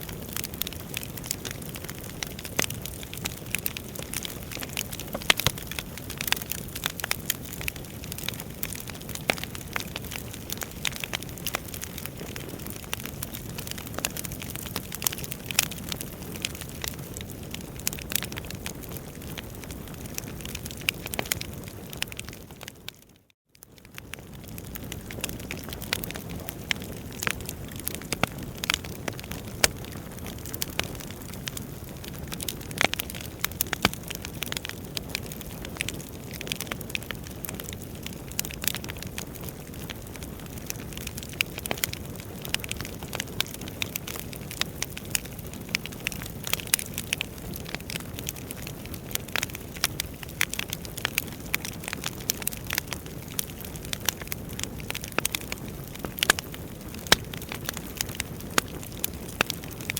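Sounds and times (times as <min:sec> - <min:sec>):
logs crackling and popping: 0:00.0 - 0:59.9
wood fire burning: 0:00.0 - 0:59.9.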